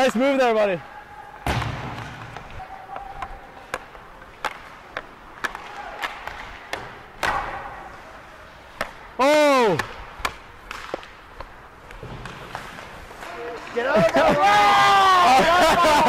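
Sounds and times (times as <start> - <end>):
hockey sticks slapping pucks: 1.2 - 16.0
pucks cracking off boards: 1.3 - 16.0
skate blades scraping ice: 2.0 - 16.0.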